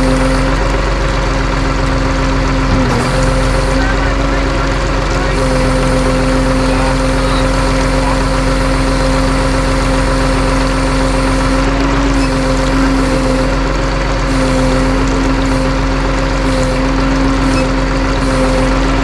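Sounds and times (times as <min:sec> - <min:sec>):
truck engine droning: 0:00.0 - 0:19.0.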